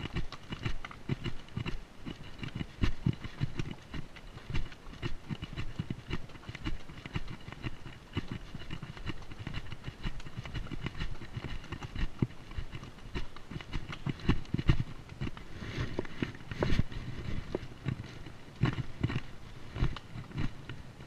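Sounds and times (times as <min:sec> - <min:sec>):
dull hoof thumps: 0:00.0 - 0:21.0
hooves clicking on rock: 0:00.0 - 0:21.0.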